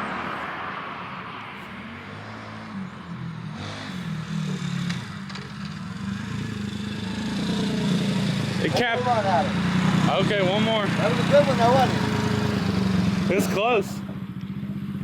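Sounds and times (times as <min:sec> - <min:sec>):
motorbike engine revving: 0:01.8 - 0:15.0.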